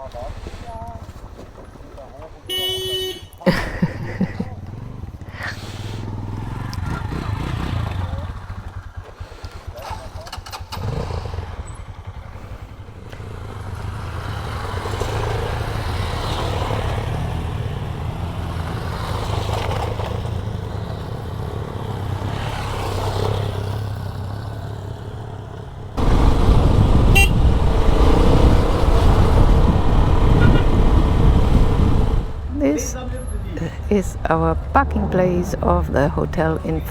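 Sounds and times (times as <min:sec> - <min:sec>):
road noise: 0:00.0 - 0:36.9
motorcycle engine: 0:01.5 - 0:36.9.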